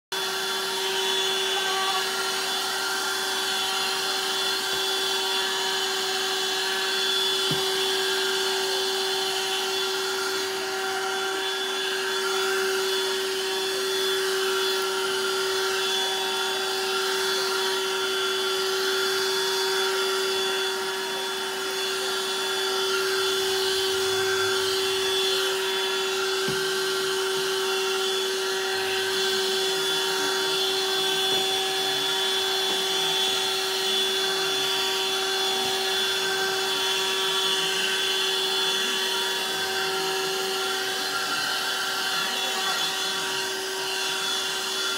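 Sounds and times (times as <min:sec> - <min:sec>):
handheld vacuum cleaner running: 0:00.1 - 0:44.9.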